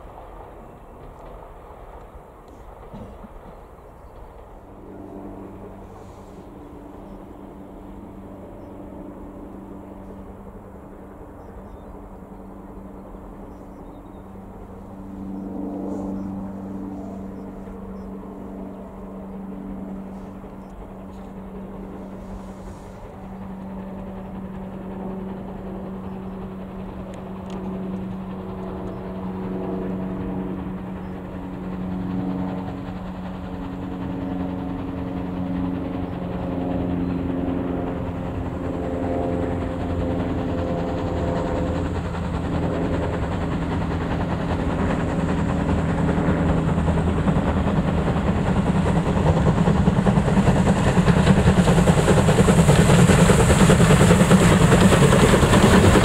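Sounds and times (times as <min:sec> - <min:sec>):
steady low hum: 0:00.0 - 0:56.0
steam locomotive approaching: 0:00.0 - 0:56.0.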